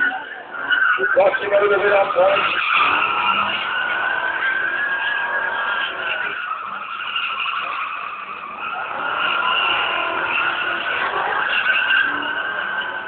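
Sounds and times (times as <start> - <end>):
tyres screeching: 0.0 - 13.0.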